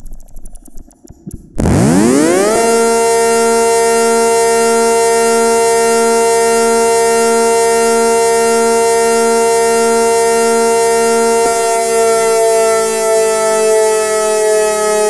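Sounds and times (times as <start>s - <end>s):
synthesized multi-tone siren: 1.6s - 15.0s.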